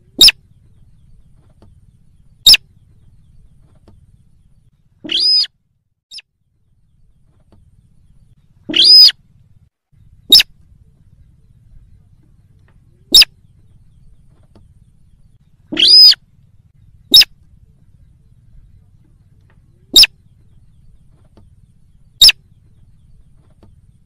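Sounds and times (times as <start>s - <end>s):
rail bird calls: 0.0s - 24.0s.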